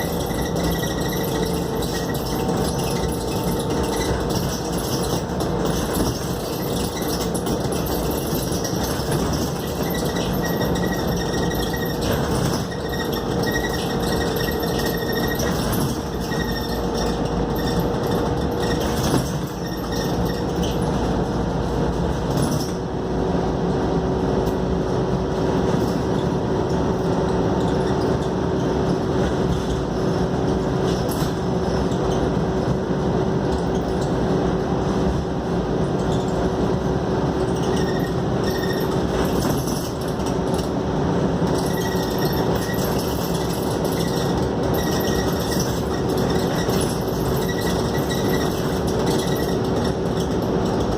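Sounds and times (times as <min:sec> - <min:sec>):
bus engine and road noise: 0:00.0 - 0:50.9.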